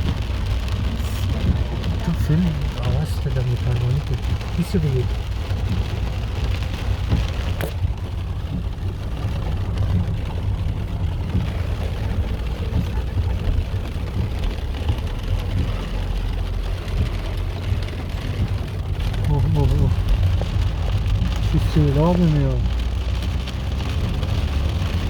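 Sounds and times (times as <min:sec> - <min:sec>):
heavy rain pouring: 0:00.0 - 0:25.0
low rumble: 0:00.0 - 0:25.0.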